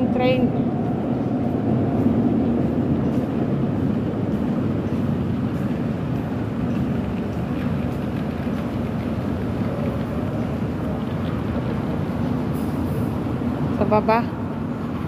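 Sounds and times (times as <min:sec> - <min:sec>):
low rumble of metro station: 0:00.0 - 0:15.0.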